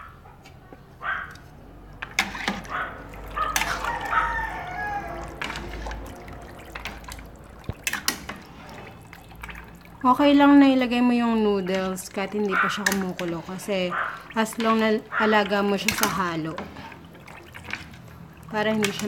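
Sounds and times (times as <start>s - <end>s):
water swishing in pot: 1.2s - 19.0s.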